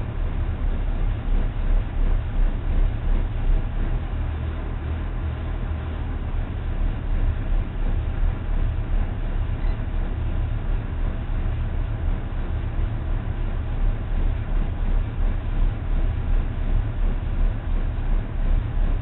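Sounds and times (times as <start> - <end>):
boat engine low rumble: 0.0 - 19.0.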